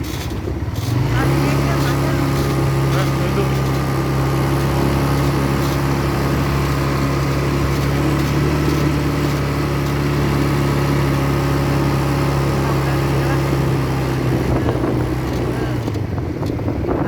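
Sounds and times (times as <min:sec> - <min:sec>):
atv engine droning: 0:00.0 - 0:17.0.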